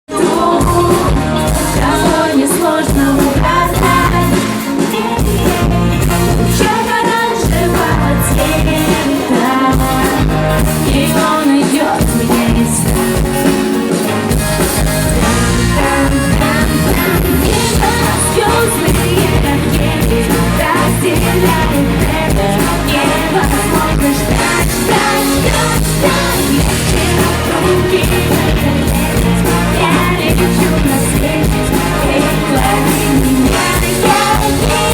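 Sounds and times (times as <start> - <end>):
live pop-rock band: 0.1 - 34.9
woman singing: 0.1 - 34.9.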